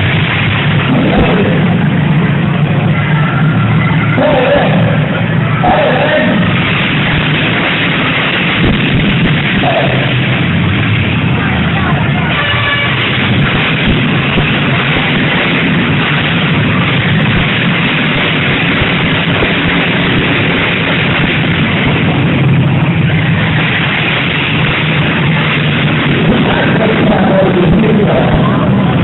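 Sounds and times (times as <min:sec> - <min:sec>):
car engines running hard: 0:00.0 - 0:29.0.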